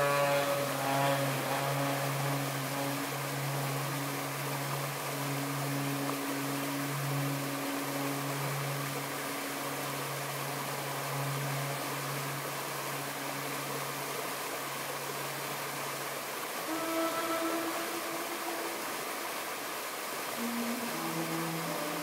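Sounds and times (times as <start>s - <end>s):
saxophone holding long notes: 0.0s - 22.0s
shallow stream rushing: 0.0s - 22.0s.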